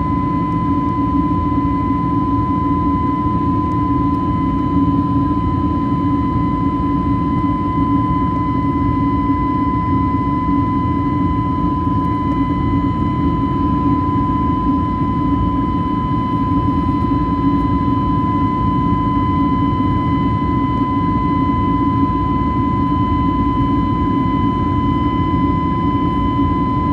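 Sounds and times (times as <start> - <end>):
jet engines roaring in cabin: 0.0 - 26.9.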